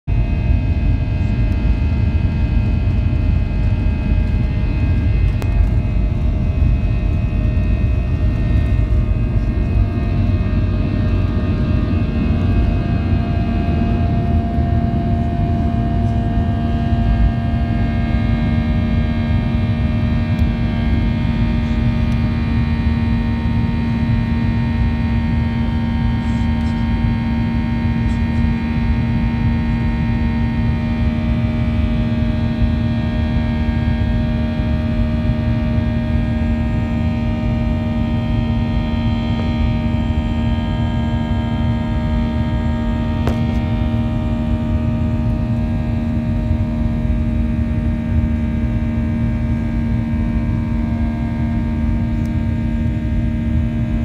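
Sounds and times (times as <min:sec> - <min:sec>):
jet engines droning: 0:00.1 - 0:54.0
wheels rumbling on runway: 0:00.2 - 0:54.0.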